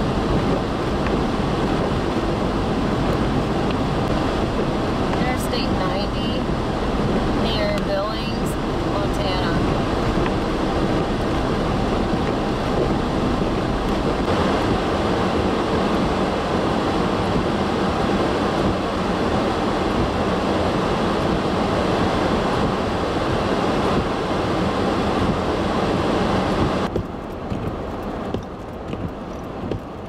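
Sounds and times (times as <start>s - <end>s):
rushing wind: 0.0s - 30.0s.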